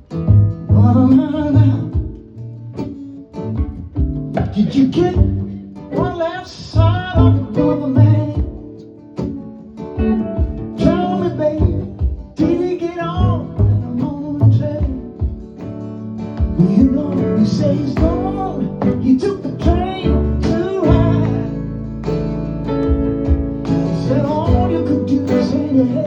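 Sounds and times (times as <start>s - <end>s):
acoustic blues guitar: 0.0s - 26.0s.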